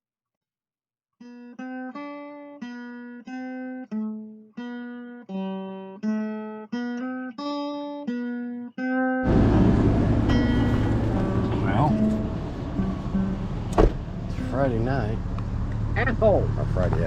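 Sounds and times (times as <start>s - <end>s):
plucked acoustic guitar melody: 1.2s - 16.3s.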